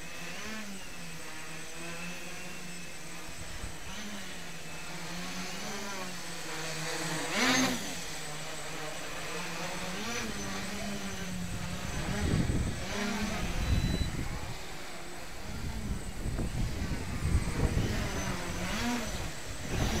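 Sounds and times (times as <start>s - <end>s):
quadcopter motors buzzing: 0.0s - 20.0s.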